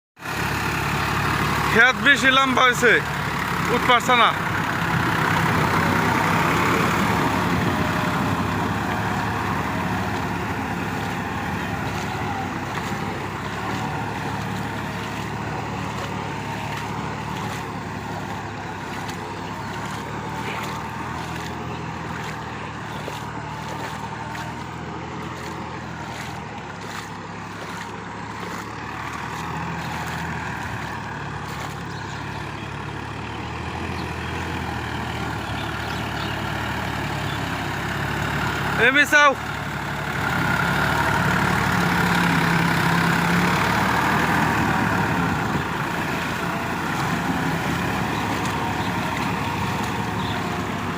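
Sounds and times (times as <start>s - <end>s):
tractor diesel engine running: 0.2s - 50.9s.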